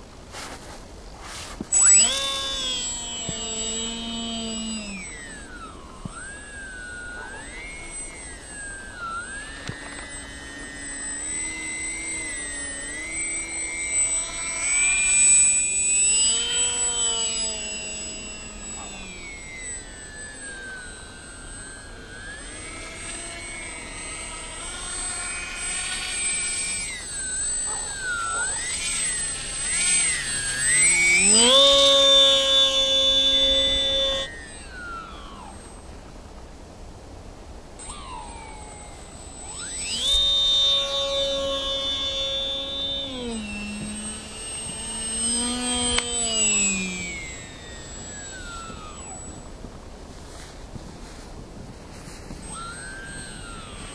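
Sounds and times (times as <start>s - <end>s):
model plane motor whining: 0.0s - 53.9s.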